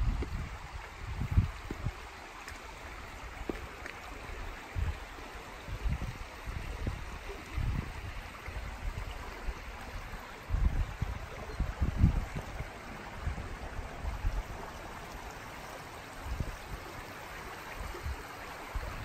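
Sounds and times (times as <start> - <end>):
stream running over stones: 0.0 - 19.0.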